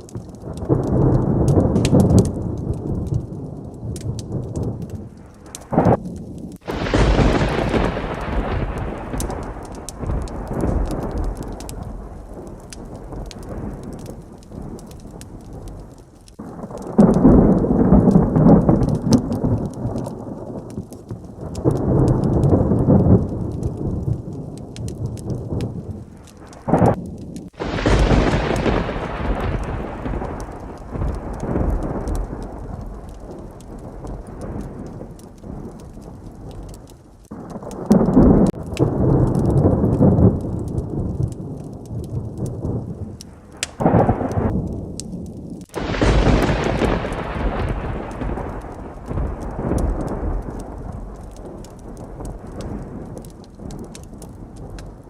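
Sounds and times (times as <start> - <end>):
heavy rain: 0.0 - 55.0
sharp thunder crack: 0.0 - 55.0
thunder rumbling: 0.0 - 55.0.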